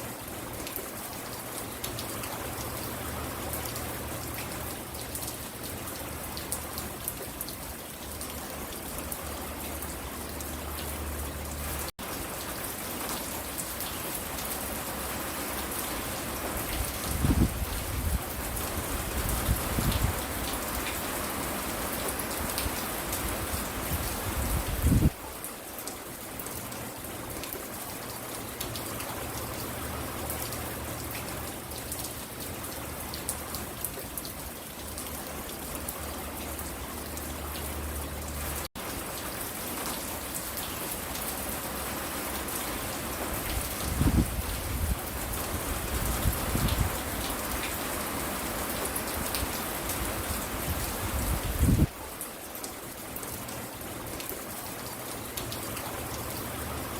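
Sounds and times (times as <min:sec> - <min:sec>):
rain pattering on a porch: 0:00.0 - 0:56.9.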